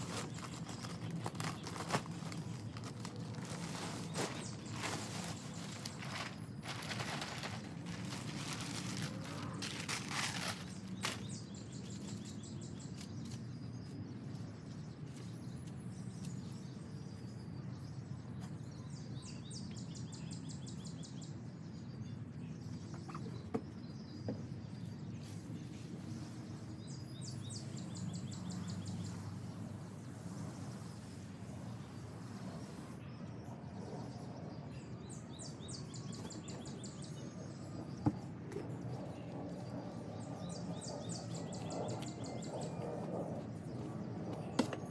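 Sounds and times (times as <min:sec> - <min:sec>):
birds chirping in trills: 0:00.0 - 0:44.9.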